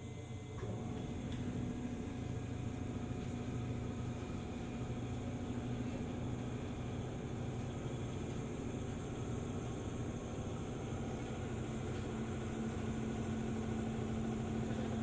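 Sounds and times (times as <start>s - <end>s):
train interior low hum: 0.0s - 15.0s.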